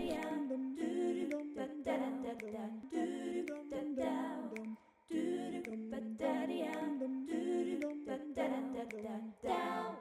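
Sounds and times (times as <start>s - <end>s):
wordless a cappella singing: 0.0s - 10.0s.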